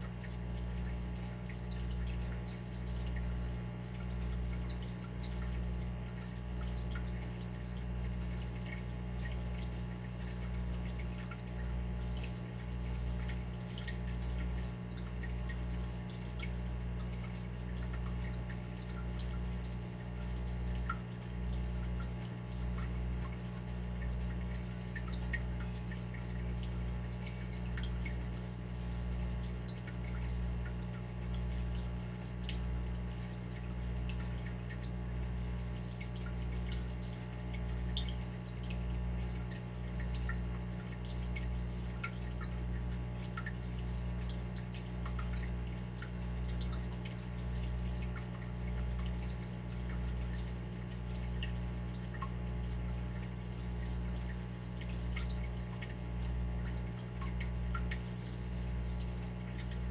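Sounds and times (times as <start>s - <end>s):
water dripping: 0.0s - 59.9s.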